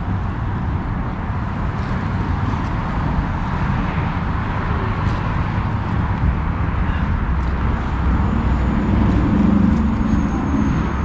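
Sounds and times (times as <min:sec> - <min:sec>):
heavy low rumble: 0:00.0 - 0:11.0.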